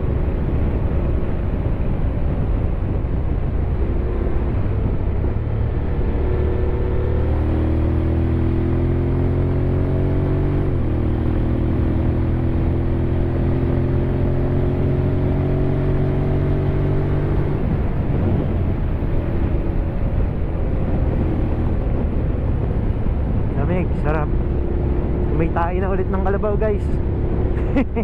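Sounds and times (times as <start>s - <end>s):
motorcycle engine accelerating: 0.0s - 28.0s
wind and road rush: 0.0s - 28.0s.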